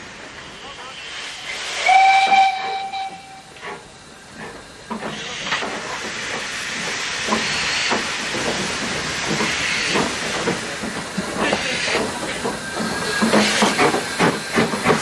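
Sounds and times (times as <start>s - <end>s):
steam hissing: 0.0s - 15.0s
steam locomotive exhaust chuffs: 0.1s - 15.0s.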